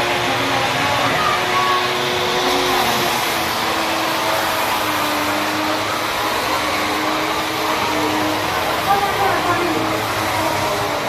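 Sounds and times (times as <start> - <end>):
electric motor whirring: 0.0 - 11.0.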